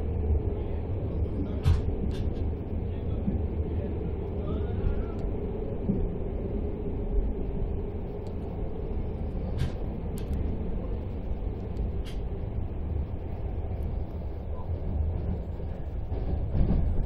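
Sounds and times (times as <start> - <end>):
hum: 0.0 - 16.7
train coach rumble: 0.0 - 17.0.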